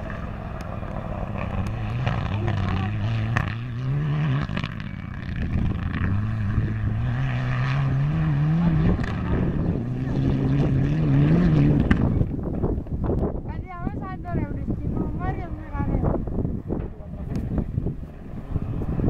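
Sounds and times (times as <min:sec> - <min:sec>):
rally car engine revving: 0:00.0 - 0:13.3, 0:15.0 - 0:19.0.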